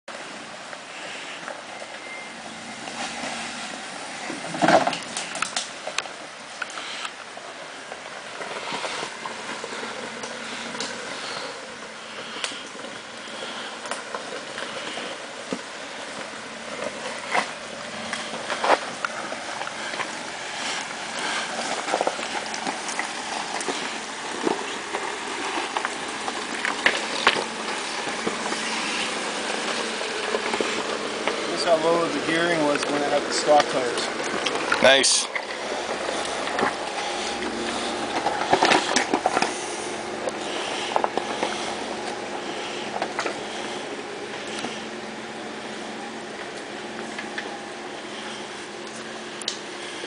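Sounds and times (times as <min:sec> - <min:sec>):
vehicle engine running: 0:00.0 - 0:50.0
tires knocking and crunching on rocks: 0:00.1 - 0:50.0
steady rushing noise: 0:02.3 - 0:50.0.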